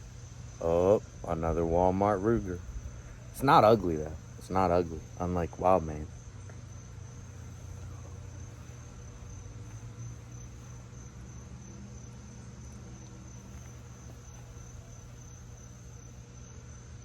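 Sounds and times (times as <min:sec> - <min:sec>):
high-pitched insect chorus: 0:00.0 - 0:17.0
low steady hum: 0:00.0 - 0:17.0.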